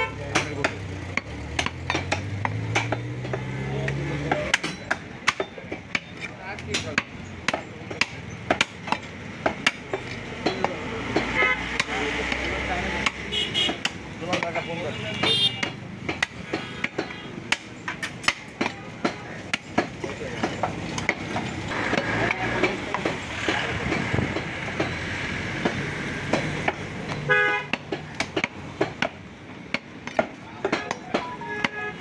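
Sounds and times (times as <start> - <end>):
cleaver knocking on wooden block: 0.3 - 14.6, 15.2 - 25.0, 25.6 - 31.8.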